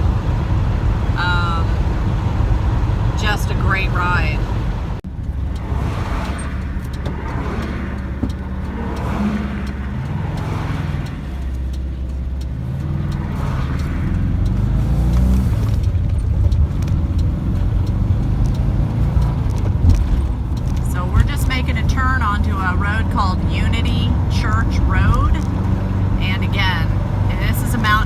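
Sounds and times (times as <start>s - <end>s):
van engine pulling uphill: 0.0s - 28.0s
wind and road noise: 0.0s - 28.0s.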